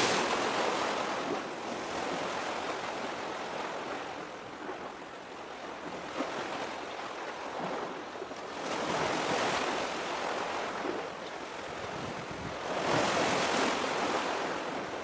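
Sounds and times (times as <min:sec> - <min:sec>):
waves washing on shore: 0:00.0 - 0:15.0.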